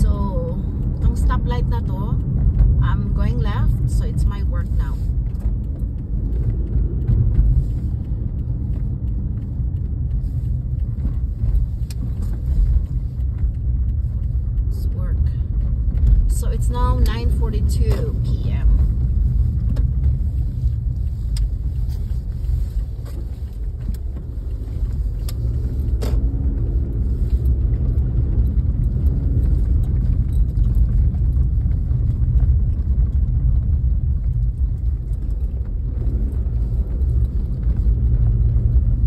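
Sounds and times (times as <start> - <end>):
road and engine rumble: 0.0 - 39.0.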